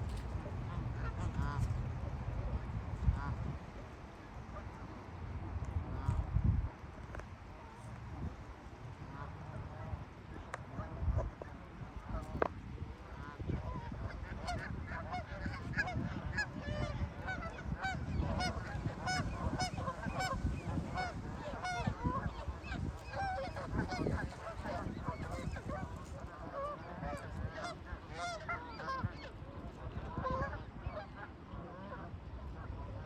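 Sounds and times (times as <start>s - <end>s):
flock of geese honking: 0.0s - 5.1s, 8.9s - 33.0s.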